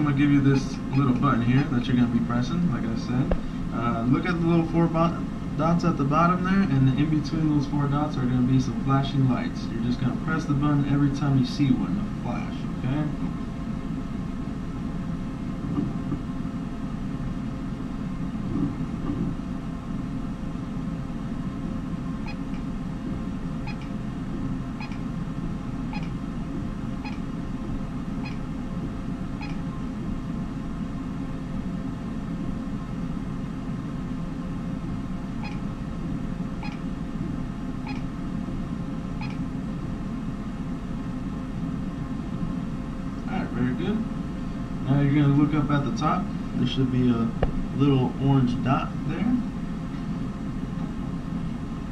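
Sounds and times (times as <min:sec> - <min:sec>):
machine humming with low rumble: 0:00.0 - 0:51.9.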